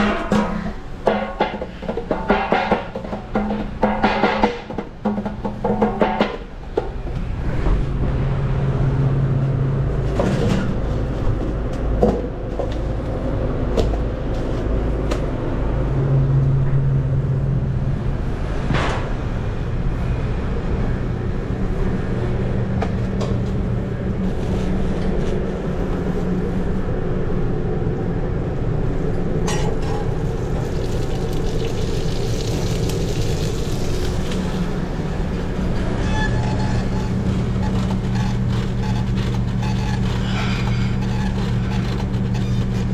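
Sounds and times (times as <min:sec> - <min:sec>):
hum of exhaust hood: 0:00.0 - 0:42.9.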